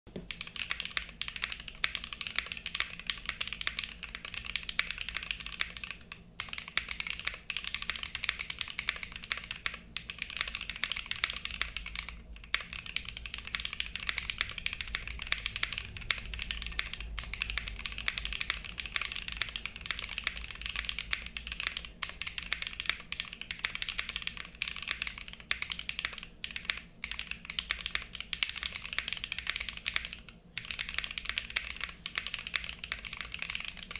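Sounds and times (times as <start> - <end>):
fast mechanical keyboard typing: 0.1 - 33.9.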